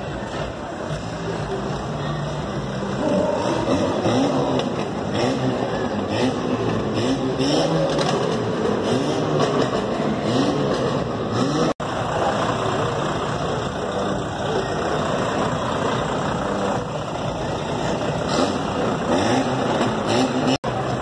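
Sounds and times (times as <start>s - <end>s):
motor vehicle engine running: 0.0s - 21.0s
outdoor bustle: 0.0s - 21.0s.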